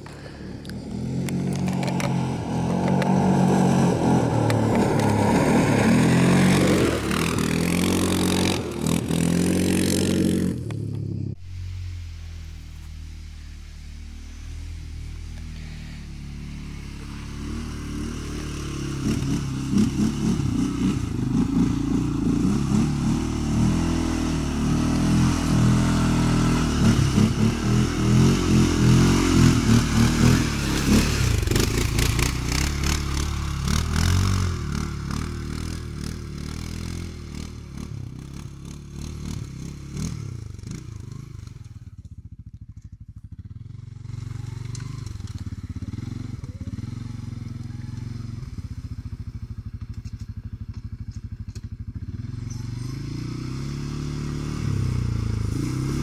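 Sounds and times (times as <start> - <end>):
quad engine revving: 0.0 - 11.4, 13.4 - 42.0, 43.4 - 56.0.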